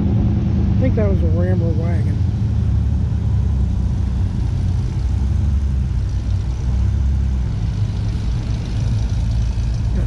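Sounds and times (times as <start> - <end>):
car engine driving slowly past: 0.0 - 10.0.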